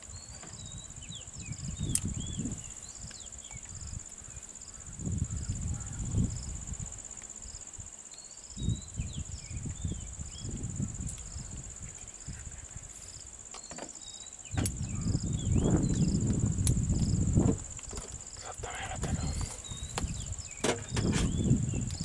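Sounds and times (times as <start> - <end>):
insect chirping: 0.0 - 22.0
insects droning: 0.0 - 22.0.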